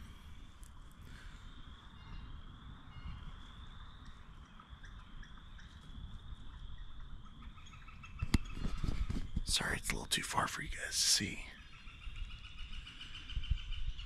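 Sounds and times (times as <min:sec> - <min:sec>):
low wind rumble on microphone: 0:00.0 - 0:09.6, 0:11.6 - 0:14.0
distant animal calls chorus: 0:00.0 - 0:09.8, 0:11.2 - 0:14.0.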